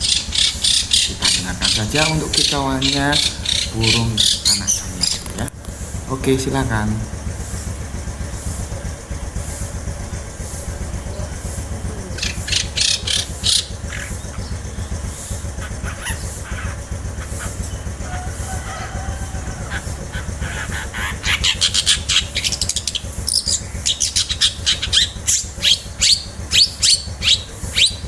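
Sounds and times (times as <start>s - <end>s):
steady low rumble: 0.0s - 27.8s
bird calling with rasping notes: 0.0s - 28.0s.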